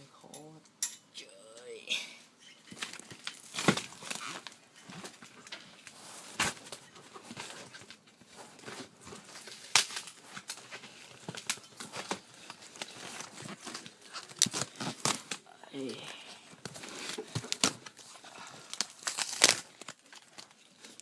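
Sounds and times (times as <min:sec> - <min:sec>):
cardboard packaging handled: 0:02.7 - 0:15.5, 0:16.4 - 0:21.0.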